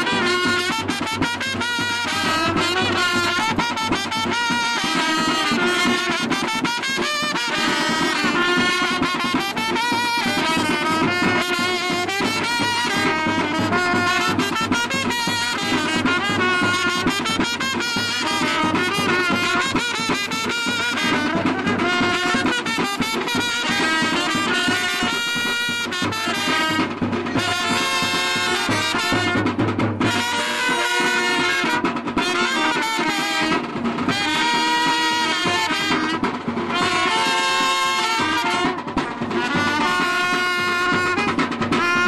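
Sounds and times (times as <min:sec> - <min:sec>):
brass band with trumpets: 0:00.0 - 0:42.0
light percussion: 0:00.0 - 0:42.0.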